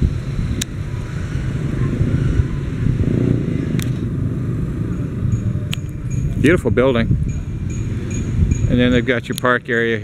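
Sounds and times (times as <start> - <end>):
wind on microphone: 0.0 - 9.7
motorcycle engine running: 0.0 - 9.8.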